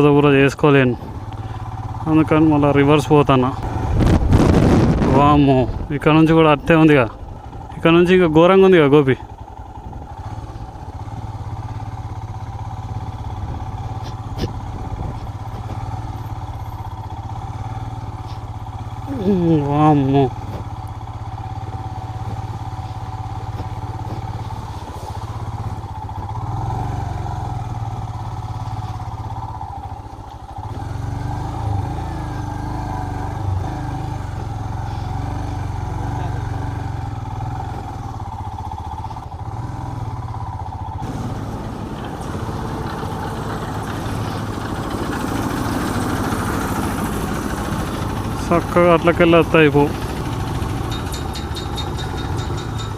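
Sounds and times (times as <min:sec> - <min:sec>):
motorcycle engine running slowly: 0:00.0 - 0:52.9.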